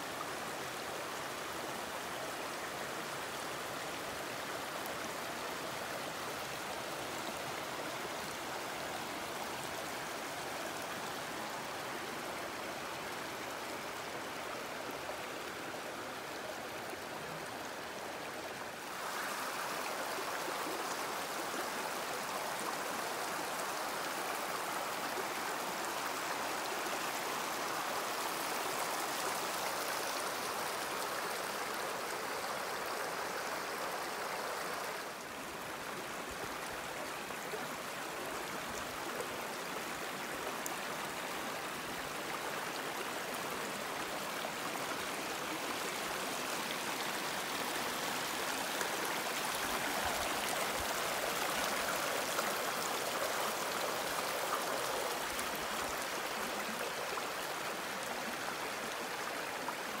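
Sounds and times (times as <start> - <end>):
stream flowing over rocks: 0.0 - 60.0.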